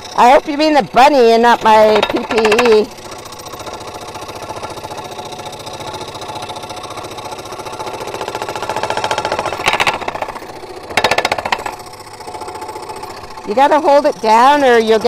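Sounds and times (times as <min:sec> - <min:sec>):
saw blade rattling: 0:00.0 - 0:15.0
scroll saw cutting wood: 0:00.0 - 0:15.0.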